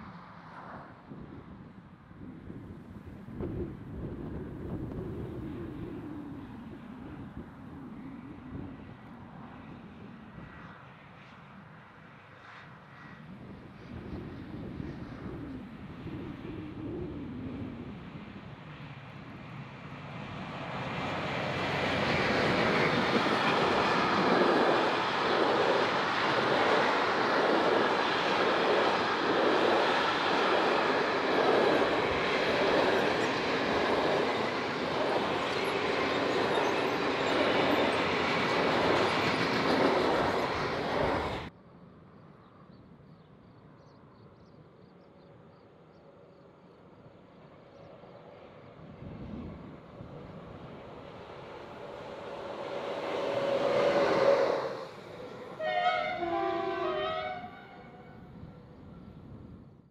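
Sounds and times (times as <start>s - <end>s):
diesel locomotive passing: 0.0s - 42.7s, 43.6s - 59.7s.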